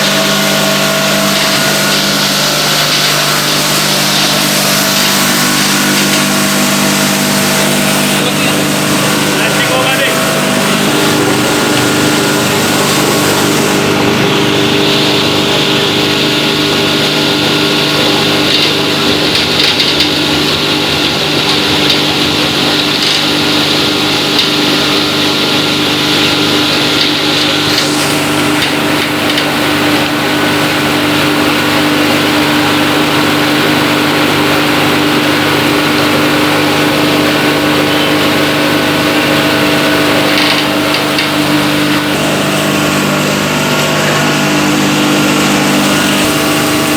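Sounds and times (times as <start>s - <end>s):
waste grinder humming: 0.0s - 46.9s.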